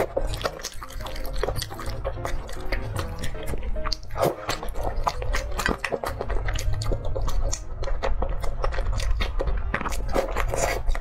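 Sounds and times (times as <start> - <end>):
chewing noodles: 0.0 - 11.0.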